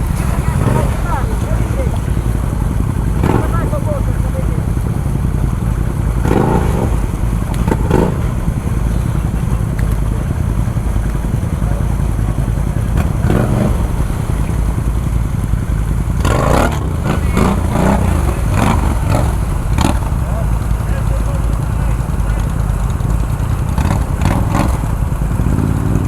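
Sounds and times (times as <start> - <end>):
clatter: 0.0 - 26.0
distant voices: 0.0 - 26.0
engine rumbling: 0.0 - 26.0.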